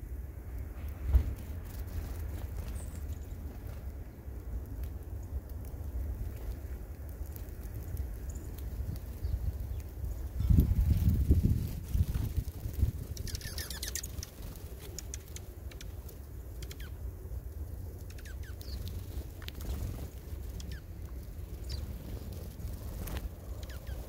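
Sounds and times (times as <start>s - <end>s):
steady low rumble: 0.0s - 24.0s
small birds chirping: 1.3s - 24.0s.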